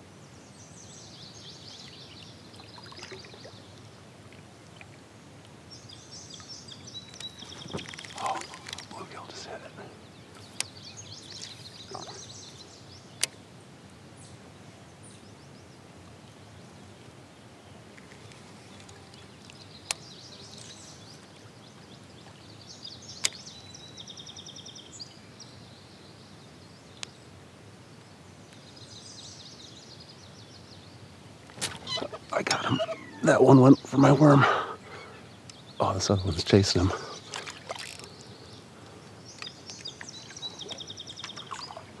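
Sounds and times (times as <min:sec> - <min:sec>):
birds singing: 0:00.0 - 0:04.1, 0:04.8 - 0:42.0.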